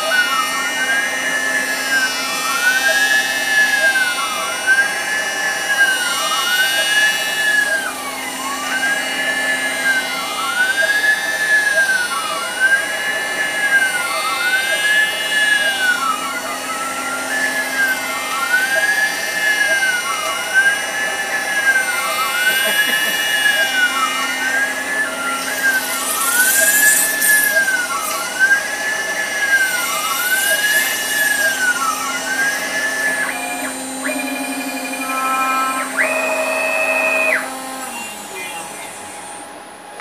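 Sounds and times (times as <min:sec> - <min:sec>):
router spindle running: 0:00.0 - 0:40.0
stepper motors whining: 0:00.0 - 0:40.0.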